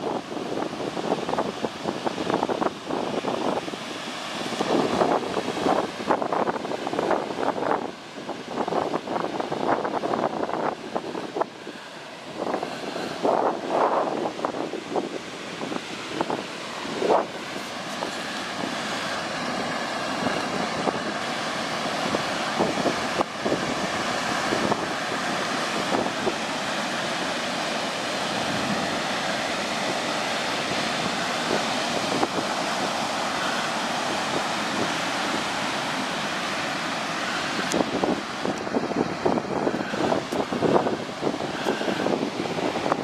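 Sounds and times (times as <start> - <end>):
ocean surf breaking: 0.0 - 43.0
wind buffeting the microphone: 0.0 - 43.0.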